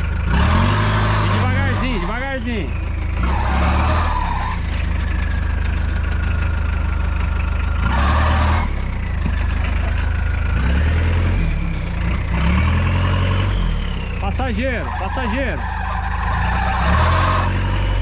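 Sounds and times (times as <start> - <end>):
jeep engine revving: 0.0 - 5.4, 6.0 - 18.0.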